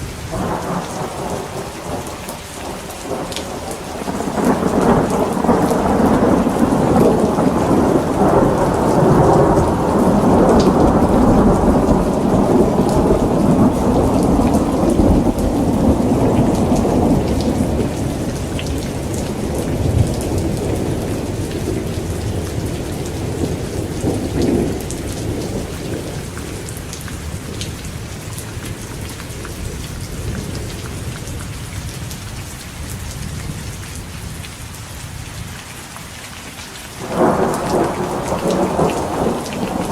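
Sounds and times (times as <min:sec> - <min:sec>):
thunder rumbling: 0:00.0 - 0:29.1, 0:37.0 - 0:39.9
rain falling: 0:00.0 - 0:39.9.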